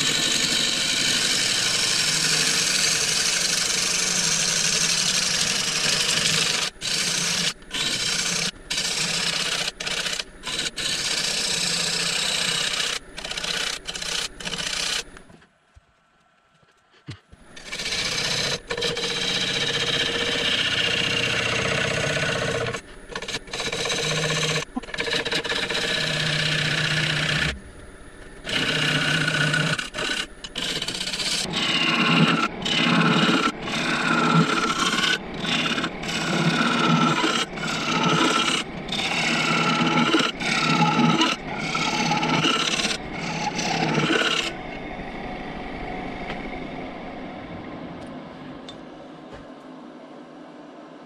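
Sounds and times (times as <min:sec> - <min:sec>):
wood lathe running: 0:00.0 - 0:15.1, 0:17.6 - 0:27.6, 0:28.4 - 0:44.8
gouge cutting spinning wood: 0:00.0 - 0:15.2, 0:17.6 - 0:27.6, 0:28.2 - 0:44.8.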